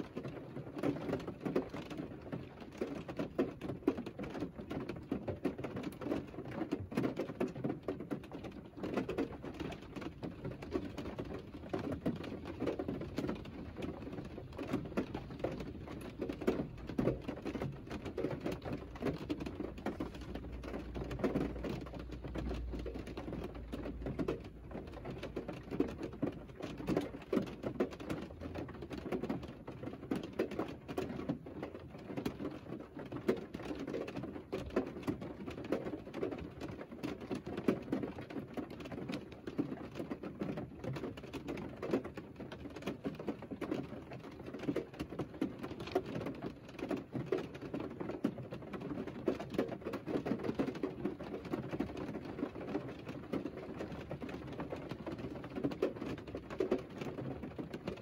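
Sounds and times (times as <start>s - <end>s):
rain pattering on a car: 0.0s - 58.0s.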